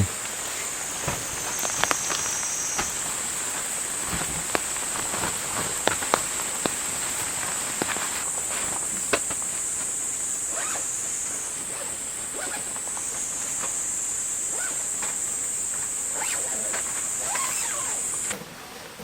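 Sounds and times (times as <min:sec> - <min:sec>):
high-pitched insect chorus: 0:00.0 - 0:18.8.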